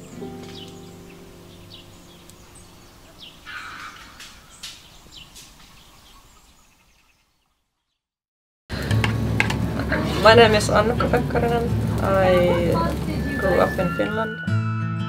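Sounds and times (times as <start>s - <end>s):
outdoor background noise: 0.0s - 7.8s, 8.7s - 14.3s.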